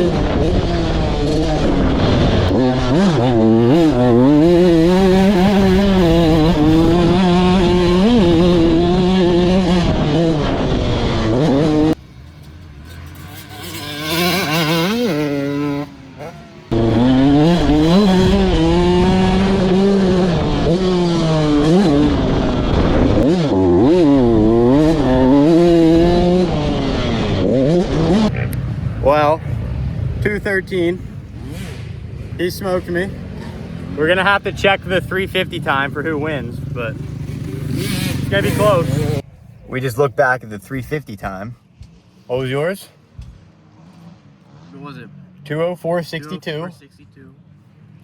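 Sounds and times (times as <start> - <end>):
two-stroke motorbike engine revving: 0.0 - 39.2.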